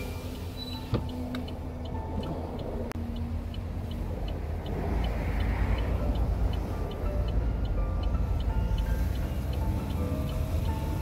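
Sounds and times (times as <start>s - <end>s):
car driving on road: 0.0s - 11.0s
faint high ticks: 1.0s - 11.0s.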